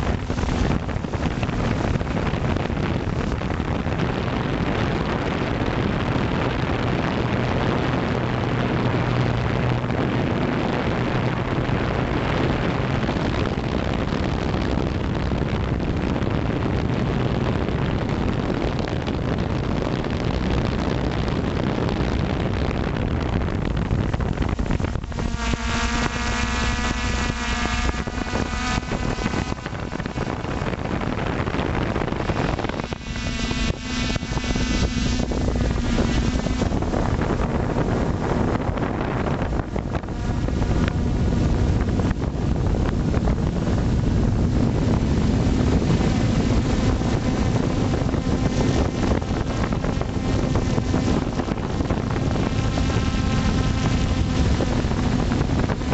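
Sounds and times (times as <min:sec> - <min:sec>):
drone propellers whining: 0:00.0 - 0:55.9
low hum: 0:00.0 - 0:55.9
wind rushing over microphone: 0:00.0 - 0:55.9.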